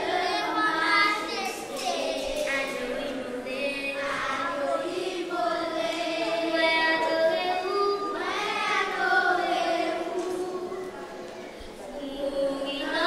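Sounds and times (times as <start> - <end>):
girls singing together: 0.0 - 13.0.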